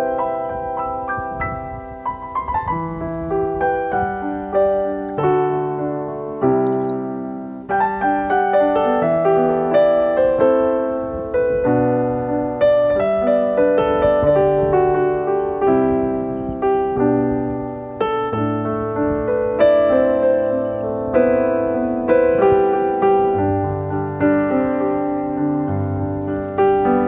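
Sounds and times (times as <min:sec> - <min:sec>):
piano piece: 0:00.0 - 0:27.0.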